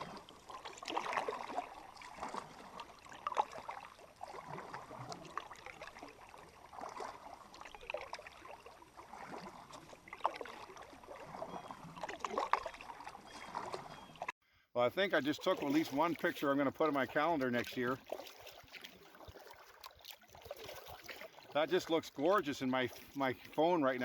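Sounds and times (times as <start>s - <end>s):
canoe paddle strokes in water: 0.0s - 14.3s, 15.0s - 24.0s.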